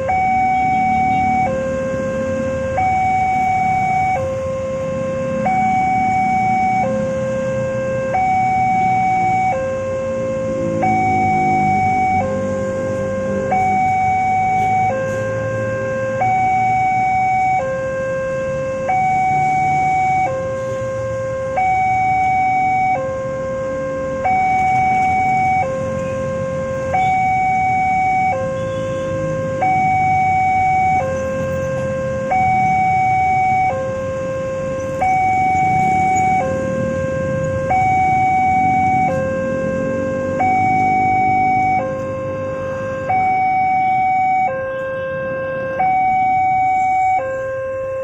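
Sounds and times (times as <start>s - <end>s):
level crossing two-tone alarm: 0.0s - 48.0s.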